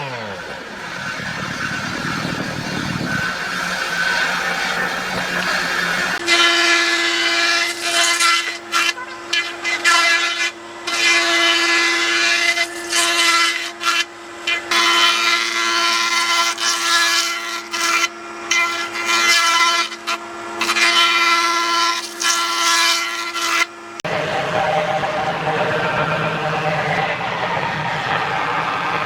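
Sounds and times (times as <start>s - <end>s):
tool rasping into wood: 0.0s - 23.7s
power tool motor running: 0.0s - 27.1s.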